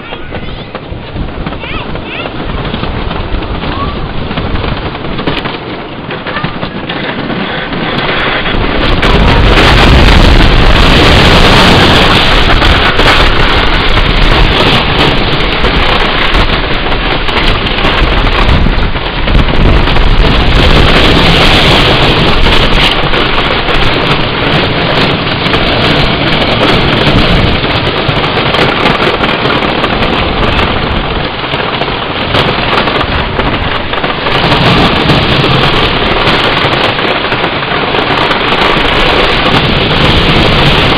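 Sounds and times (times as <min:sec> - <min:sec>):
roller coaster rattling on track: 0:00.0 - 0:40.9
rush of wind: 0:00.0 - 0:40.9.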